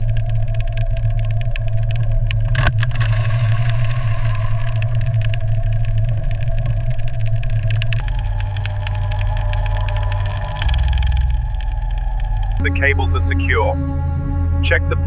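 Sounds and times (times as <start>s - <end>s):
small clicks and rattles: 0.0s - 12.6s
heavy engine droning: 2.1s - 15.0s.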